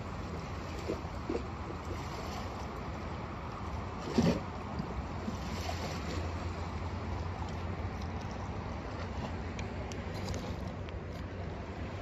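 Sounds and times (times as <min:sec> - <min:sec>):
surf: 0:00.0 - 0:12.0.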